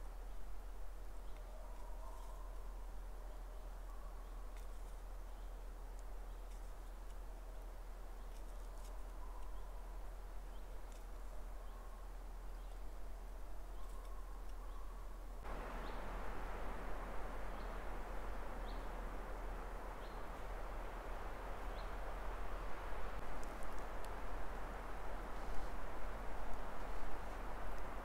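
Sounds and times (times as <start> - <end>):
steady outdoor hiss: 0.0 - 28.0
small birds chirping: 1.1 - 28.0.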